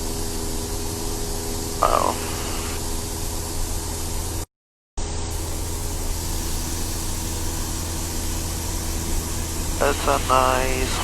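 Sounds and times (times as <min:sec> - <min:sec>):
light aircraft engine drone: 0:00.0 - 0:04.4, 0:05.0 - 0:11.0.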